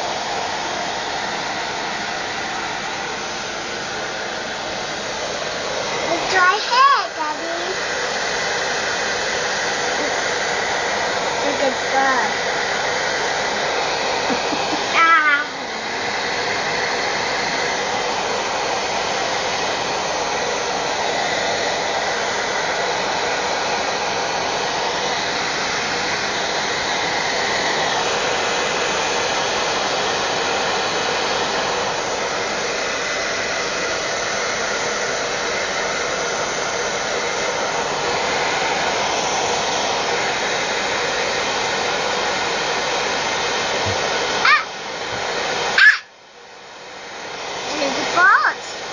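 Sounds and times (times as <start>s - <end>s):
hair dryer blowing: 0.0s - 48.9s.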